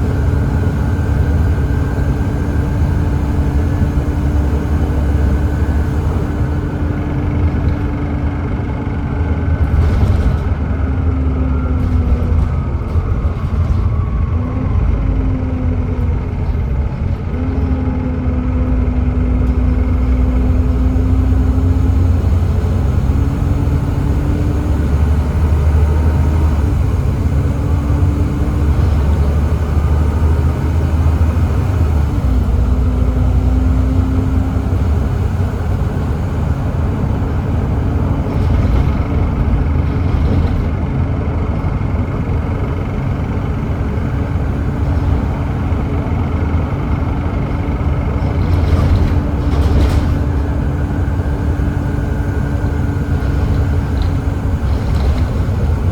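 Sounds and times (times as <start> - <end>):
diesel bus engine rumbling: 0.0 - 55.9.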